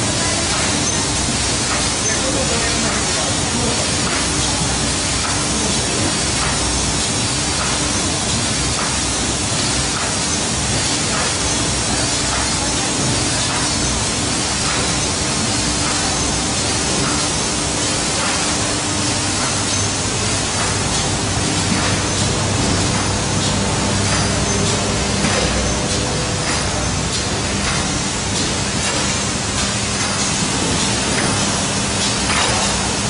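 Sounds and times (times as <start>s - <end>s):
machinery and blowers rushing: 0.0s - 33.0s.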